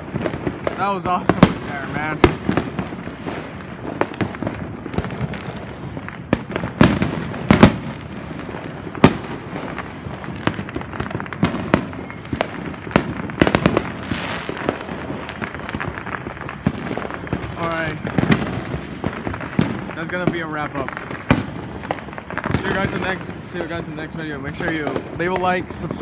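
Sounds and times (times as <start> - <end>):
firecrackers crackling: 0.0 - 26.0
loud firework bangs: 0.0 - 26.0.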